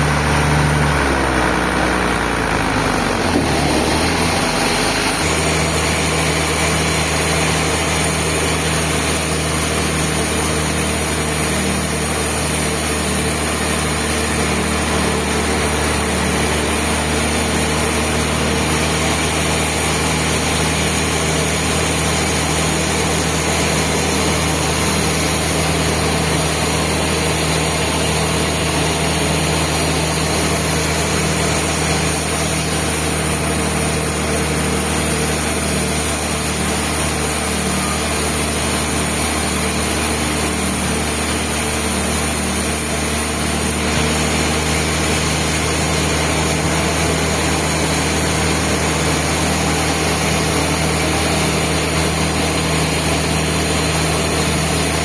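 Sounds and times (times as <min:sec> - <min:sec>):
band sawmill drone: 0:00.0 - 0:55.0.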